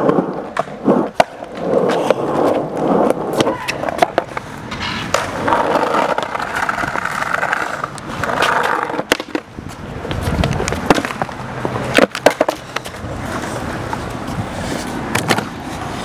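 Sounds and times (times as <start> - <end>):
skateboard wheel clicks and knocks: 0.0 - 15.9
skateboard rolling over concrete: 0.0 - 16.0.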